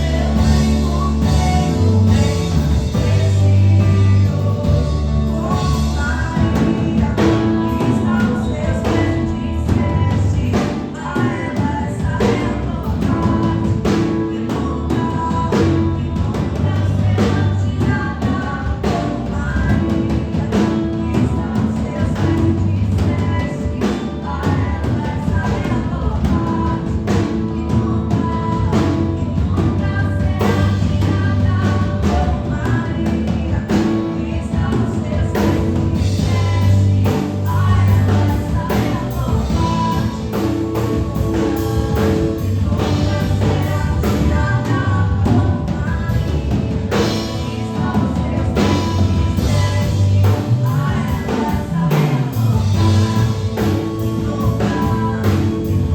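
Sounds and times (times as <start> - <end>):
drum kit: 0.0 - 55.9
person singing: 0.0 - 55.9
worship band playing: 0.0 - 55.9.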